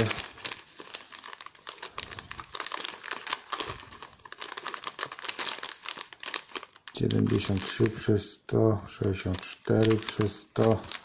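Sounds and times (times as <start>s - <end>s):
plastic sachets crinkling: 0.0s - 11.0s.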